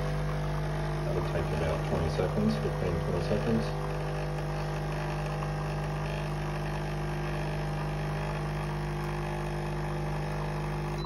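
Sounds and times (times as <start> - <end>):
espresso machine pump buzzing: 0.0 - 11.0.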